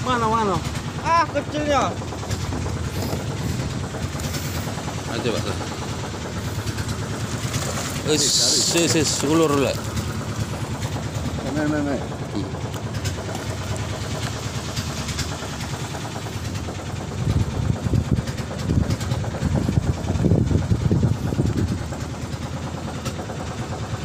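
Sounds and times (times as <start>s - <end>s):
boat engine idling: 0.0s - 24.0s.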